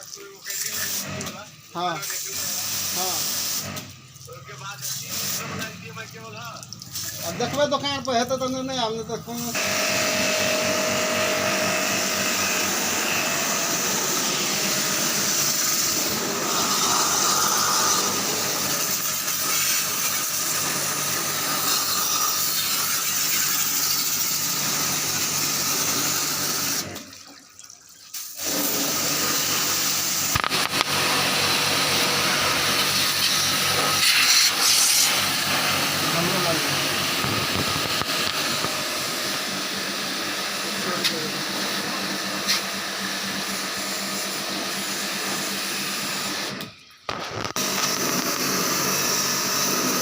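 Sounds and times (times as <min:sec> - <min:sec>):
pressure-washer water spraying: 0:00.0 - 0:27.1, 0:28.1 - 0:46.6, 0:47.5 - 0:50.0.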